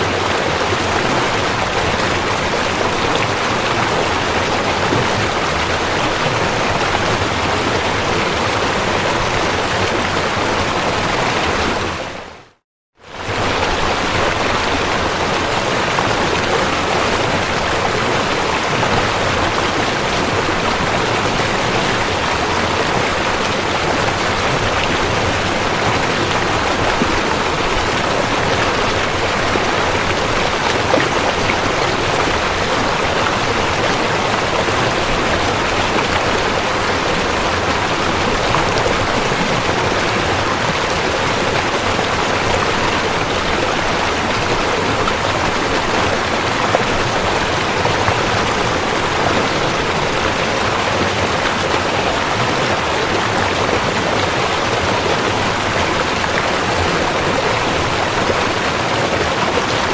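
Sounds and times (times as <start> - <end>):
river rushing: 0.0 - 12.4, 13.0 - 59.9.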